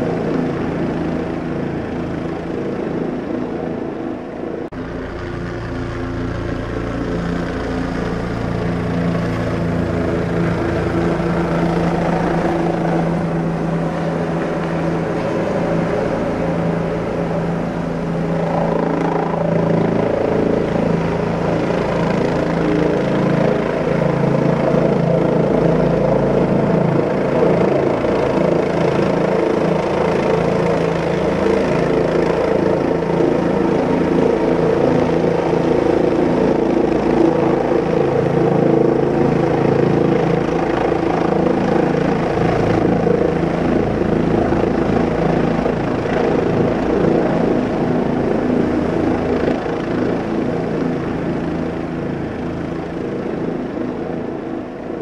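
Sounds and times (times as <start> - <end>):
rotorcraft rotor and motor hum: 0.0 - 55.0.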